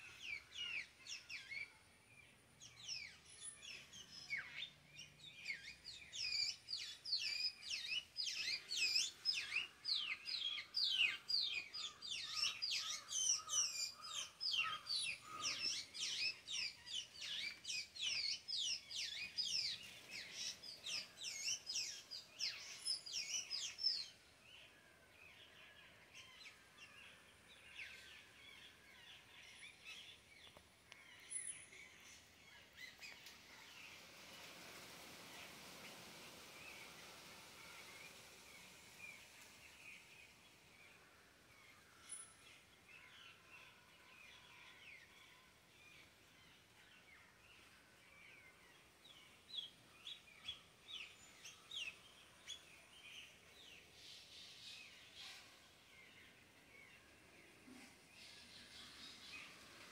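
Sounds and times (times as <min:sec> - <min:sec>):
birds calling with high chirps: 0:00.0 - 0:59.9.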